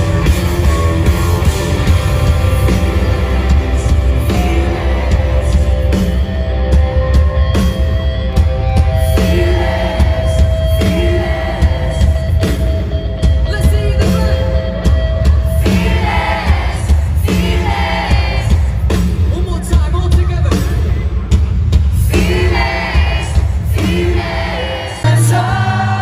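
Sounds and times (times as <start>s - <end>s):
live rock band: 0.0s - 26.0s.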